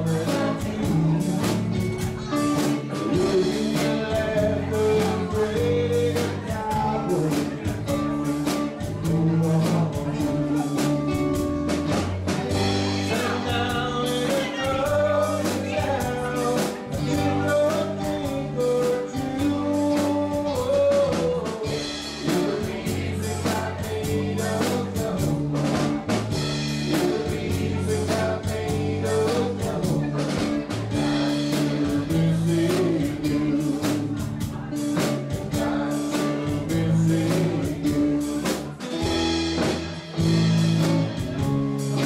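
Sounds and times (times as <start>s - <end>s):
electric guitar: 0.0s - 42.0s
steady drum beat: 0.0s - 42.0s.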